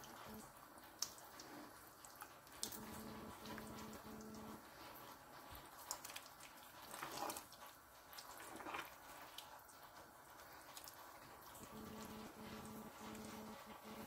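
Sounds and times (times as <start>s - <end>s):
spoon stirring thick stew: 2.1s - 14.0s.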